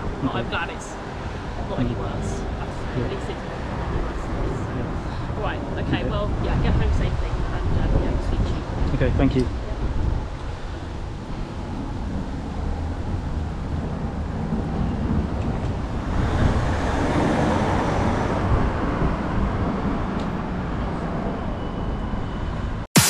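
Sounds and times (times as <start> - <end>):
road traffic rumble: 0.0 - 22.8.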